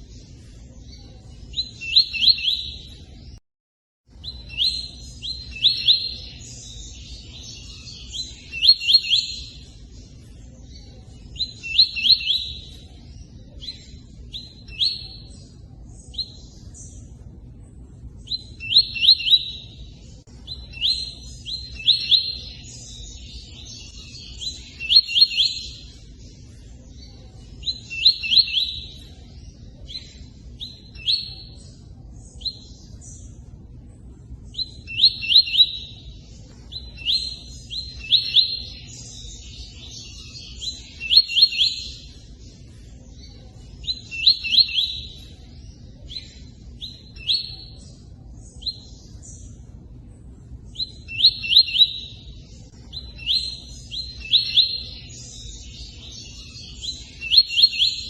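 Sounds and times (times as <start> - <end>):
bird chirping rapidly: 0.4 - 3.3, 4.1 - 17.2, 18.1 - 26.4, 27.0 - 33.4, 34.5 - 49.6, 50.6 - 58.0.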